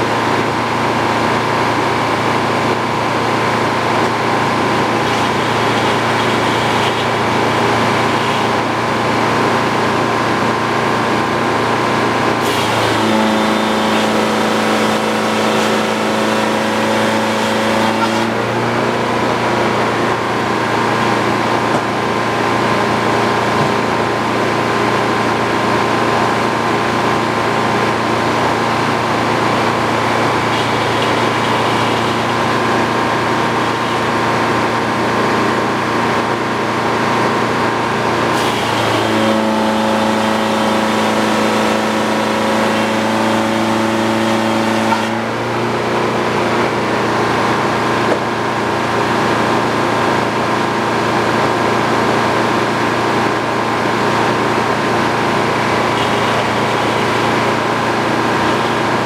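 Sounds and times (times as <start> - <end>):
sawmill mechanical hum: 0.0 - 59.0.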